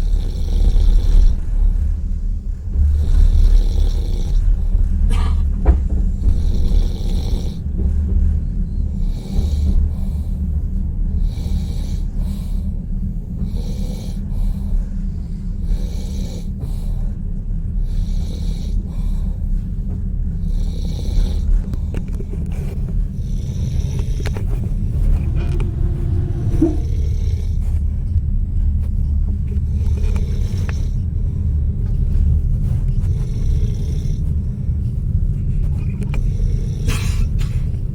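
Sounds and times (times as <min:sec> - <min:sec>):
train carriage rumble: 0:00.0 - 0:37.9.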